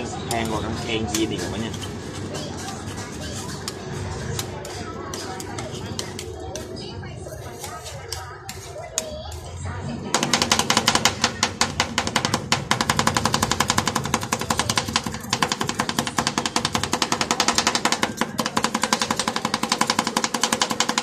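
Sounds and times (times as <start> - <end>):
metal spatulas chopping on steel: 0.0 - 6.8, 7.4 - 9.5, 10.2 - 21.0.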